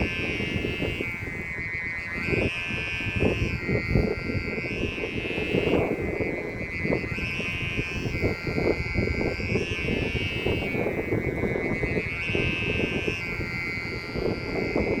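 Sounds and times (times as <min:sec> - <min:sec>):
high wavering tone: 0:00.0 - 0:15.0
wind buffeting microphone: 0:00.0 - 0:15.0.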